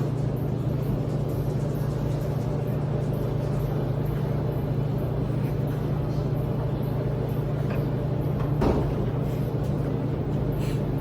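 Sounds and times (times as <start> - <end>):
washers and dryers running: 0.0 - 11.0.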